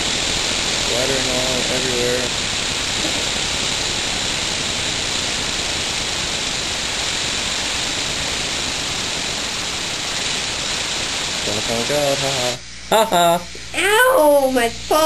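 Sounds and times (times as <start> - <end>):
air engine hissing: 0.0 - 15.0.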